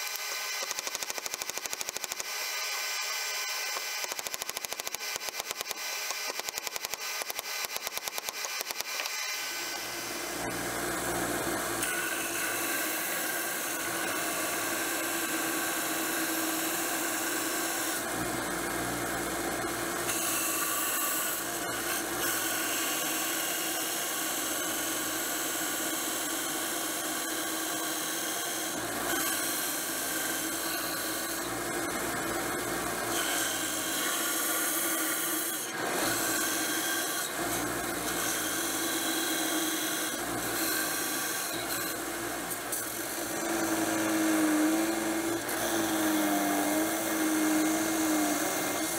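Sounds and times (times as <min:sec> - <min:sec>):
band saw cutting wood: 0:00.0 - 0:48.9.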